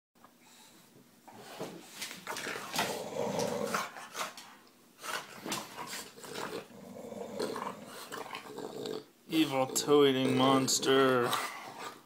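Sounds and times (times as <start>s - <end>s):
puppy growling in play: 1.3s - 12.0s.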